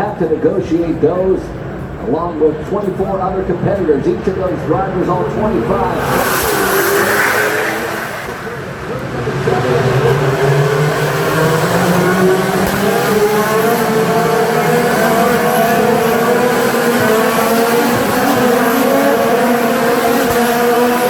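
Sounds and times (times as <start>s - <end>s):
race car engines accelerating: 0.0s - 21.0s.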